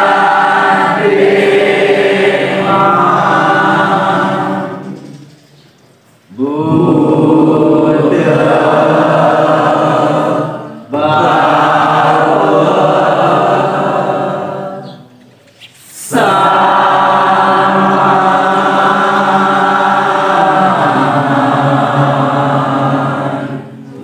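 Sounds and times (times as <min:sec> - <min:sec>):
voices chanting a devotional song: 0:00.0 - 0:24.0.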